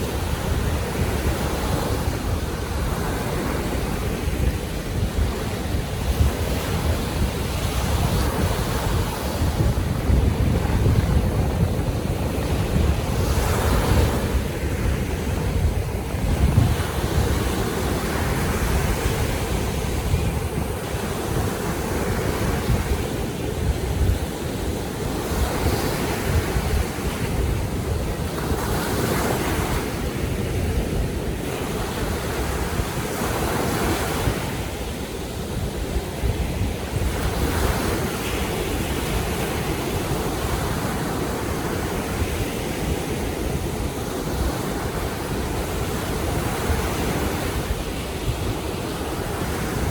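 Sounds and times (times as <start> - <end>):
sea waves washing in: 0.0 - 49.9
wind rumbling on microphone: 0.0 - 49.9.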